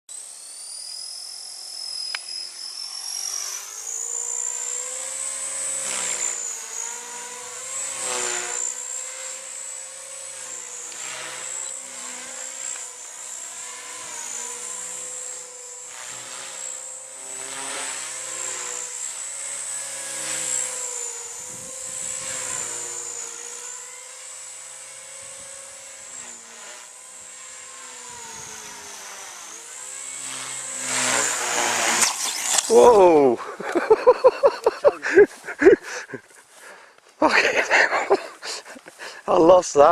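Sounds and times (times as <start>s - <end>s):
model helicopter motor whine: 0.1s - 39.9s.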